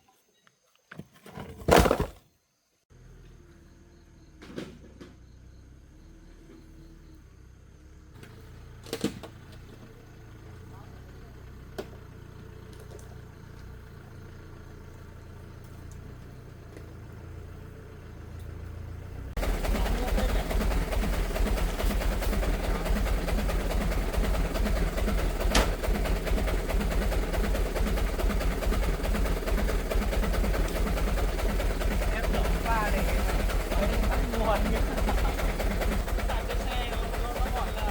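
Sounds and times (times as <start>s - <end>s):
faint vehicle engine running: 2.9s - 37.9s
loud engine rumble: 2.9s - 37.9s
road noise: 2.9s - 37.9s.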